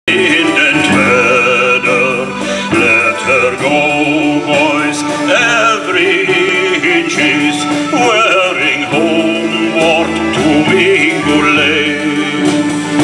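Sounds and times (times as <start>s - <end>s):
instrumental accompaniment: 0.1s - 13.0s
men's choir singing a shanty: 0.1s - 13.0s.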